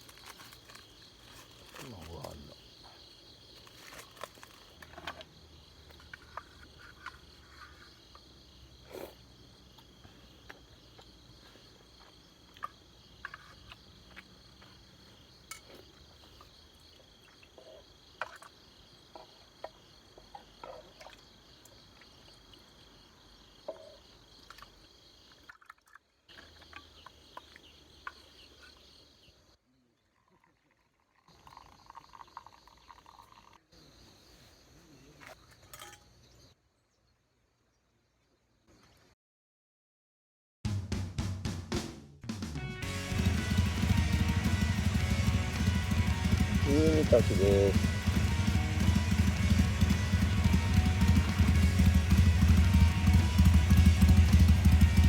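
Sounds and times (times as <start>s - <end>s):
crickets chirping: 0.0s - 25.6s, 26.3s - 37.4s, 43.2s - 55.0s.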